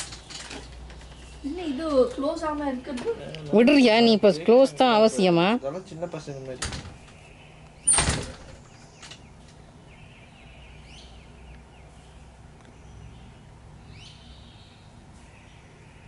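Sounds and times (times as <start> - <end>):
low outdoor hum: 0.0 - 16.0.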